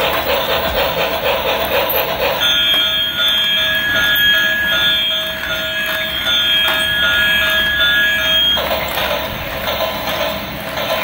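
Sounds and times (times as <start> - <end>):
toy train repeating pulse: 0.0 - 11.0.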